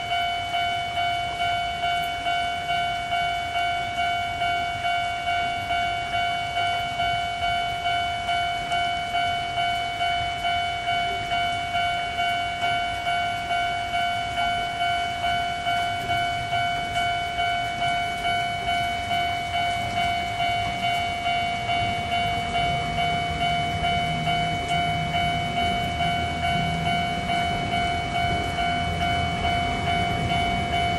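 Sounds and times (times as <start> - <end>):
level crossing bell ringing: 0.0 - 30.9.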